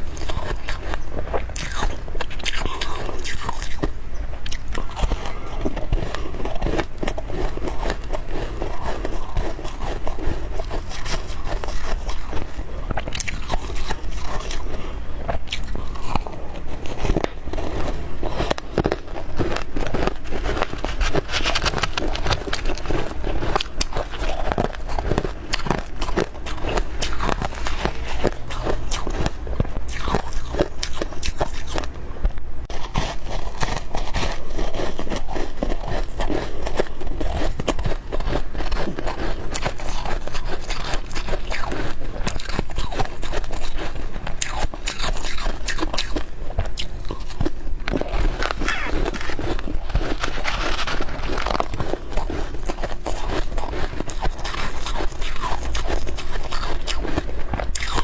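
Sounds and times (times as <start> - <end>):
biting and chewing frost: 0.0 - 58.0.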